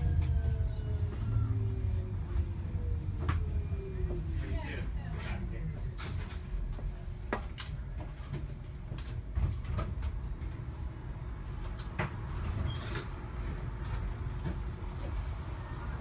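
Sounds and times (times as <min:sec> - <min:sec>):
low rumble inside rail car: 0:00.0 - 0:16.0.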